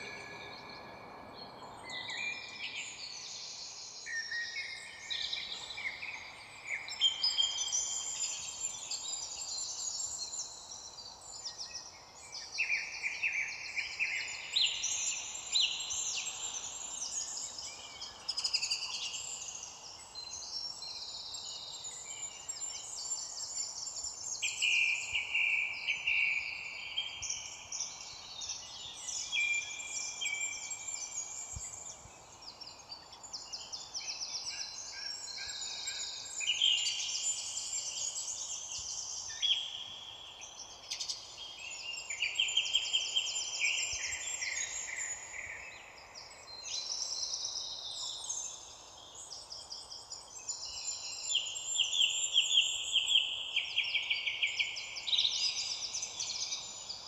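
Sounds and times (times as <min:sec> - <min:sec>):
faint background hiss: 0:00.0 - 0:57.0
songbirds chirping: 0:00.0 - 0:57.0.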